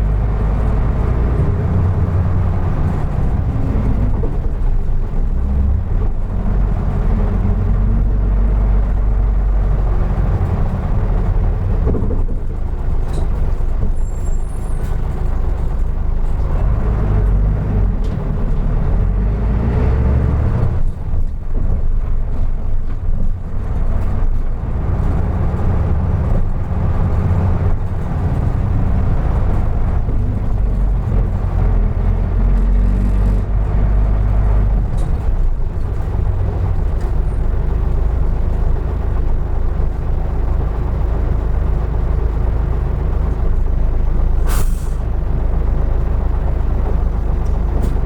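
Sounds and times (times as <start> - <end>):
bus engine rumbling: 0.0 - 48.0.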